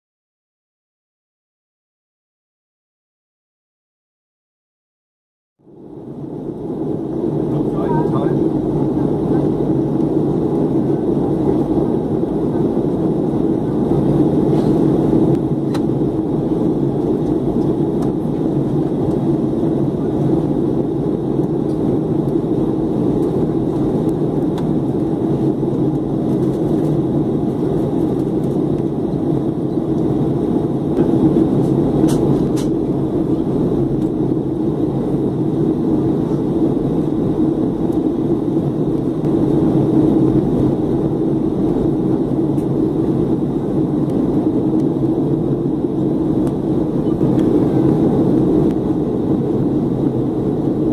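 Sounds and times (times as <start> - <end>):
airliner cabin drone: 5.6 - 50.9.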